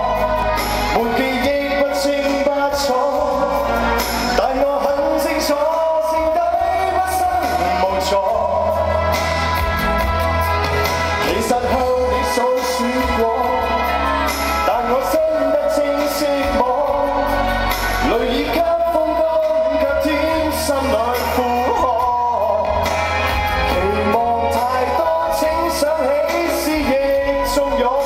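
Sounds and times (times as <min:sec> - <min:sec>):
man singing into microphone: 0:00.0 - 0:09.8, 0:10.4 - 0:28.0
pop backing music with bass: 0:00.0 - 0:28.0.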